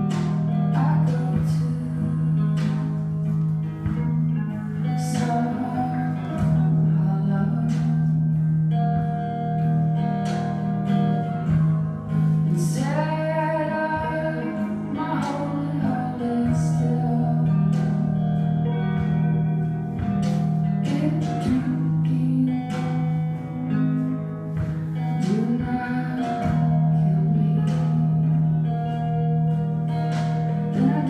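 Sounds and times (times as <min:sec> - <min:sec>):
guitar: 0:00.0 - 0:31.0
person singing: 0:00.0 - 0:31.0.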